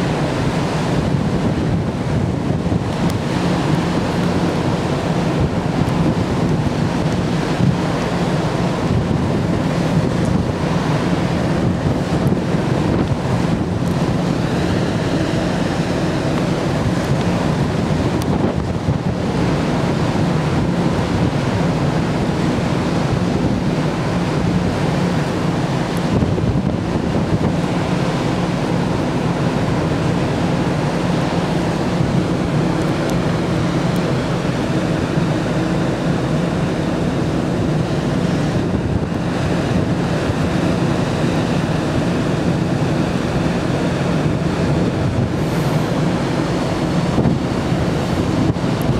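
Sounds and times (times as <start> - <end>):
sea water rushing along hull: 0.0 - 48.9
ship engine drone: 0.0 - 48.9
wind buffeting microphone: 0.0 - 48.9.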